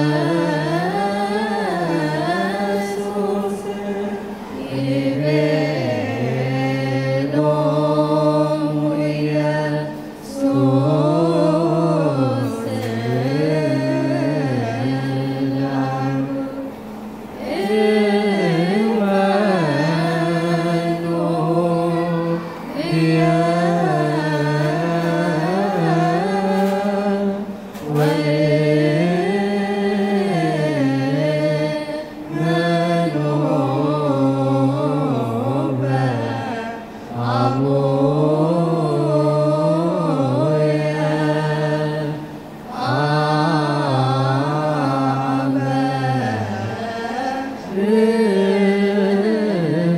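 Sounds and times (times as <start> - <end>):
choir chanting a hymn: 0.0 - 49.9.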